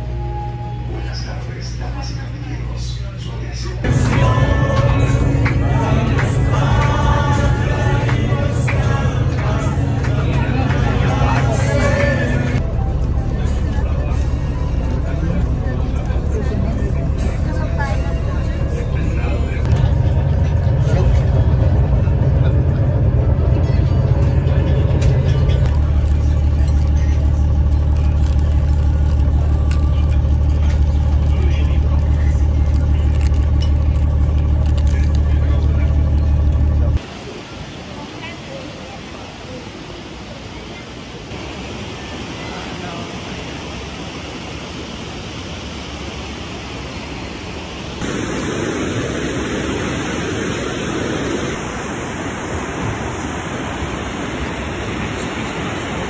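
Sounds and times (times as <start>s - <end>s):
low mechanical drone: 0.0s - 38.6s, 41.0s - 56.0s.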